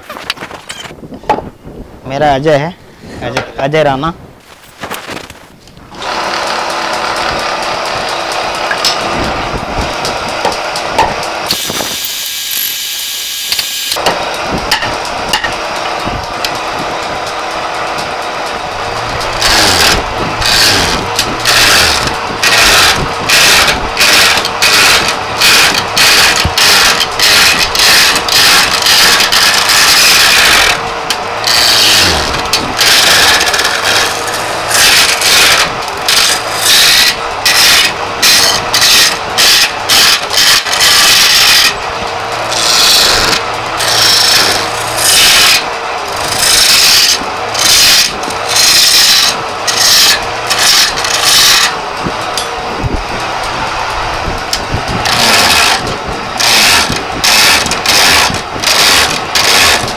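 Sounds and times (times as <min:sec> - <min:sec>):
lathe motor humming: 0:05.8 - 0:59.9
chisel scraping wood on lathe: 0:06.0 - 0:12.8, 0:15.6 - 0:52.6, 0:53.3 - 0:59.9.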